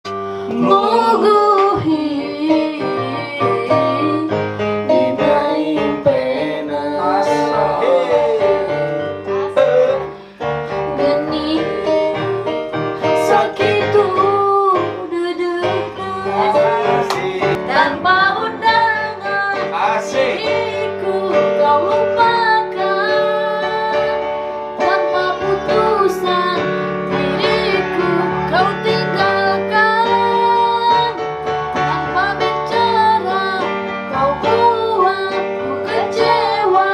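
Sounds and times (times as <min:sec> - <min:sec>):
instrumental accompaniment: 0:00.0 - 0:36.9
woman singing: 0:00.5 - 0:09.6, 0:10.8 - 0:17.0, 0:17.6 - 0:19.8, 0:21.0 - 0:31.2, 0:31.8 - 0:36.9.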